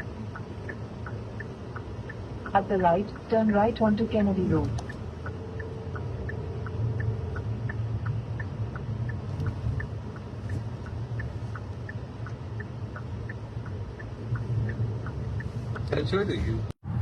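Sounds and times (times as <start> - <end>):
turn signal ticking: 0.0 - 16.8
low rumble of car driving: 0.0 - 17.0.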